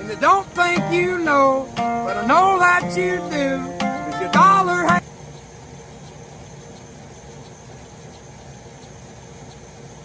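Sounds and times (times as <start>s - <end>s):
fan noise: 0.0s - 10.0s
high whine: 0.0s - 10.0s
laser engraver humming: 0.0s - 10.0s.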